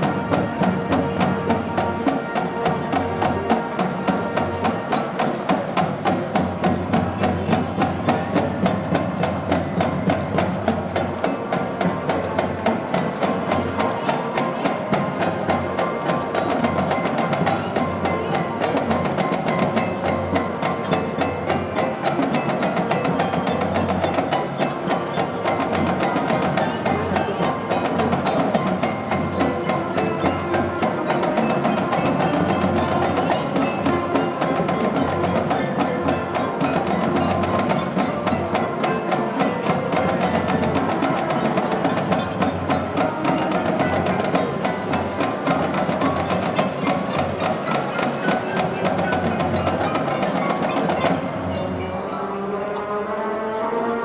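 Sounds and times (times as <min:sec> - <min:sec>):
fast strokes on mallets and drums: 0:00.0 - 0:52.8
marching band music: 0:00.0 - 0:54.0.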